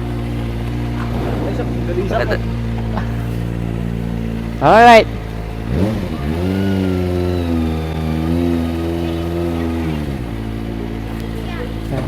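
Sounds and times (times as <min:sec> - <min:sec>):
motorcycle engine revving: 0:00.0 - 0:12.0
other engines idling: 0:00.0 - 0:12.0.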